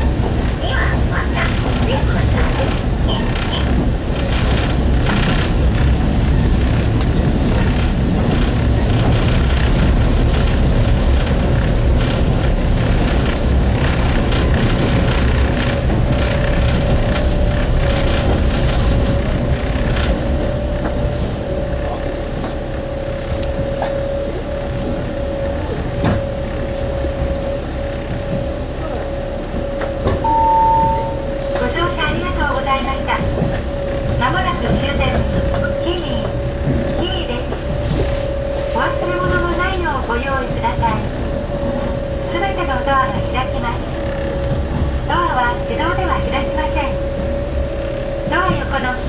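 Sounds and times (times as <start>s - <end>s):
diesel railcar rumbling on rails: 0.0s - 49.0s
steady whine: 0.0s - 49.0s.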